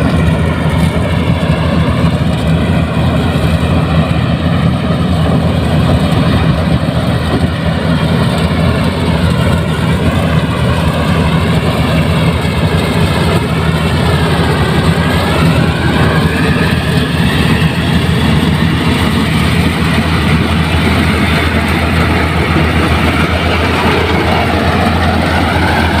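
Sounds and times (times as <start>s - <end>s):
combine harvester engine drone: 0.0s - 26.0s
machine whine: 0.0s - 26.0s.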